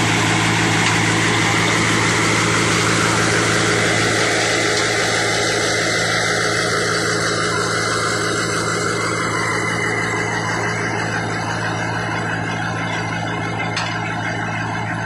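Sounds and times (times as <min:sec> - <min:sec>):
pump engine humming: 0:00.0 - 0:15.0.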